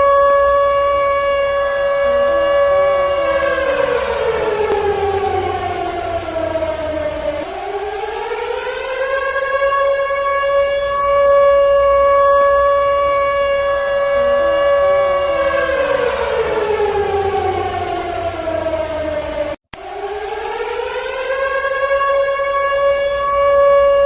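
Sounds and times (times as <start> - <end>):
warning siren wailing: 0.0 - 24.0.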